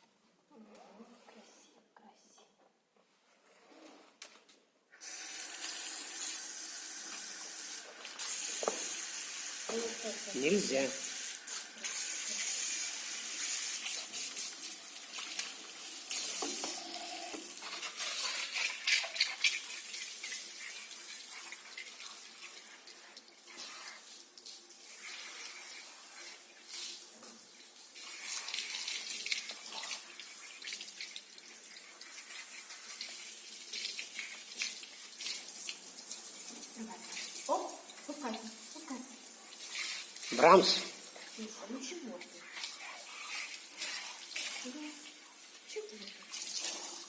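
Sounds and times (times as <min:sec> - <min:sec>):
shower sprayer hissing on dog: 0:05.0 - 0:47.0.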